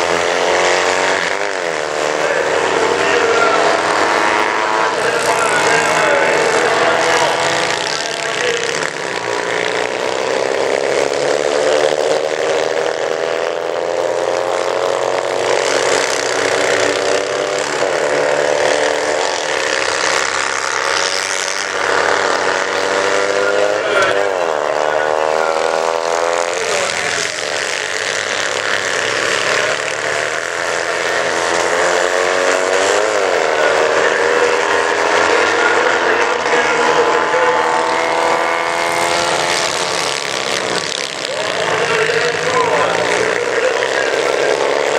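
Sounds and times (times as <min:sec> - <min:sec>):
engine revving: 0:00.0 - 0:44.9
kart engines racing: 0:00.0 - 0:44.9.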